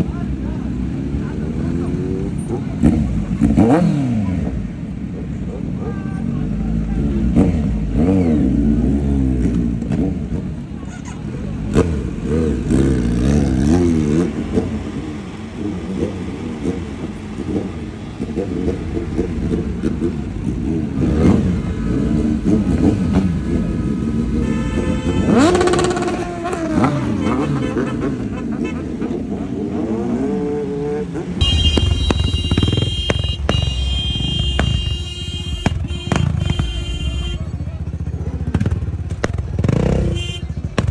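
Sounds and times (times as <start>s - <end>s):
motorcycle engine revving: 0.0s - 5.4s, 6.2s - 40.9s
procession of bikes revving: 0.0s - 40.9s.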